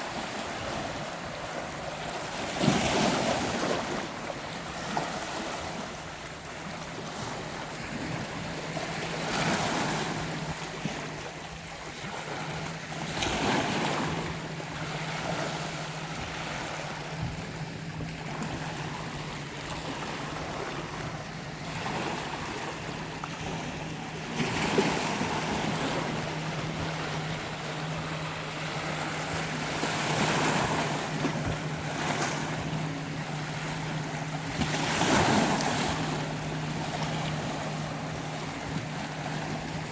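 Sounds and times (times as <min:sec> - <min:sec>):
sea waves washing in: 0:00.0 - 0:39.9
steady low hum: 0:04.6 - 0:39.9.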